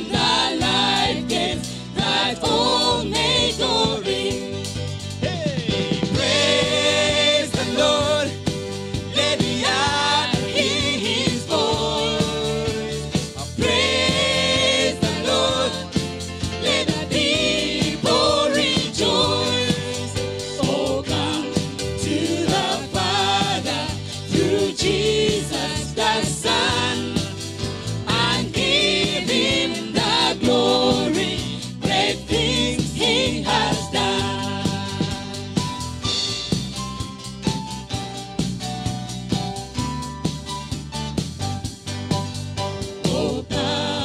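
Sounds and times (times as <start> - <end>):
voices singing gospel hymn: 0.0 - 36.8, 42.1 - 44.0
drums: 0.0 - 44.0
keyboard: 0.0 - 44.0.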